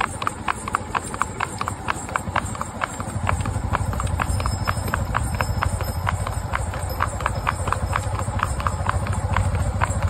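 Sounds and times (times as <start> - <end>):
horse hooves clip-clopping on asphalt: 0.0 - 10.0.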